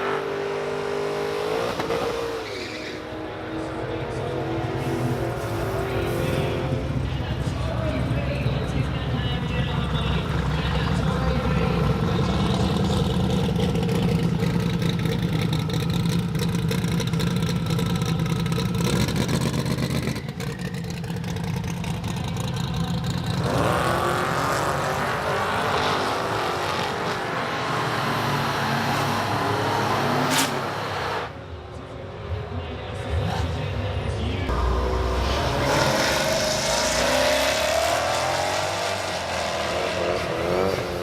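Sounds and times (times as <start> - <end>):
car accelerating hard: 0.0 - 7.2, 10.4 - 31.3, 34.5 - 41.0
racing car engines crackling: 0.0 - 41.0.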